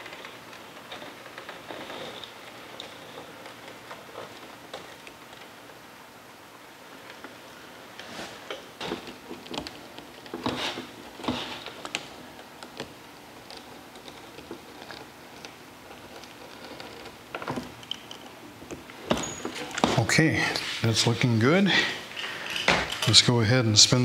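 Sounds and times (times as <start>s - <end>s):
spline roller clicking and scraping: 0.0s - 5.9s, 6.9s - 23.3s.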